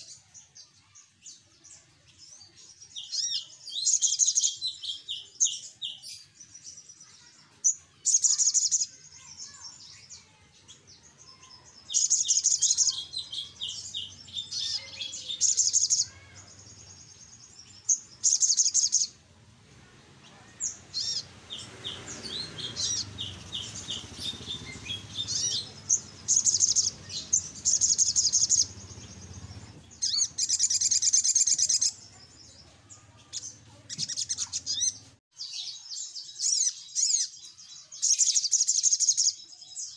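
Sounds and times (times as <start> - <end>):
bird chirping trills: 0.0 - 39.9.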